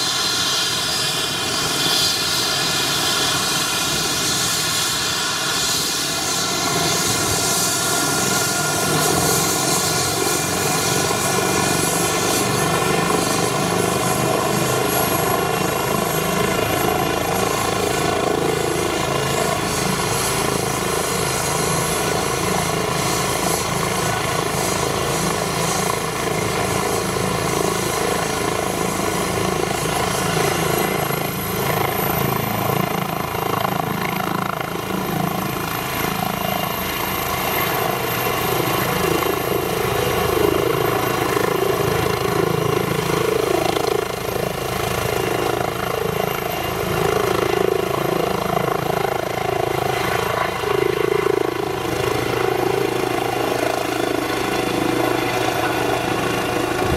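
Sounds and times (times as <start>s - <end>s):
helicopter rotor and engine: 0.0s - 56.9s
high turbine whine: 0.0s - 56.9s.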